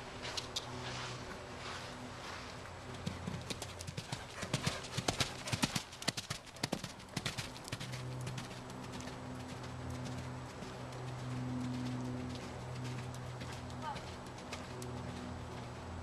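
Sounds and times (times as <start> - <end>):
horse hoofbeats on dirt: 2.8 - 15.8.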